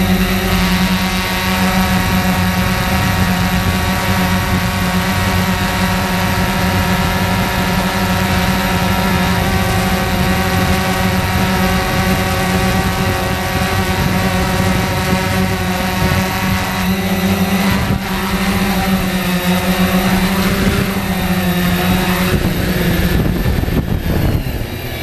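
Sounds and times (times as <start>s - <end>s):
drone motors buzzing: 0.0s - 25.0s.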